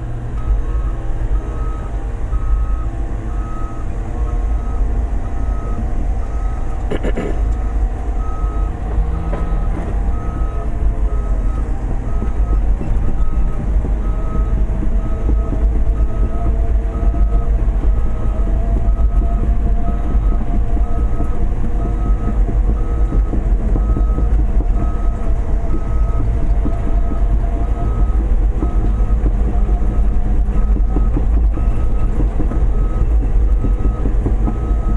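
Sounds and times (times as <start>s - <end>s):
excavator diesel engine under load: 0.0s - 34.9s
travel alarm beeping: 0.4s - 34.9s.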